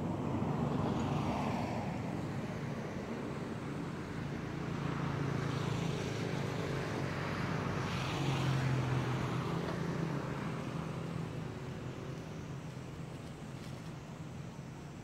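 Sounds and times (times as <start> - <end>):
rushing noise of passing vehicle: 0.0 - 15.0
vehicle engine hum: 0.0 - 15.0.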